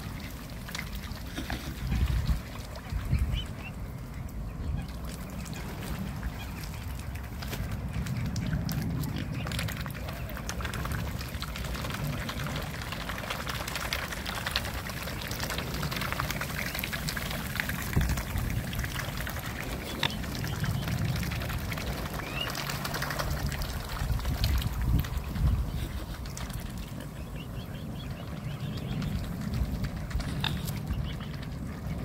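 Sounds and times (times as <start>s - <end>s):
swans dabbling in shallow water: 0.0s - 32.0s.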